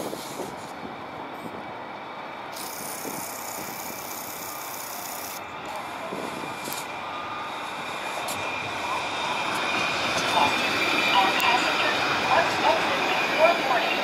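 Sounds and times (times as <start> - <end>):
tram running on rails: 0.0 - 14.0.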